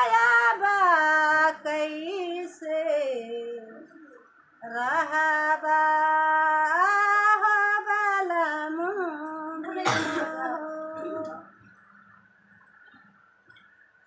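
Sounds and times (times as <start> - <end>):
woman singing unaccompanied: 0.0 - 11.7.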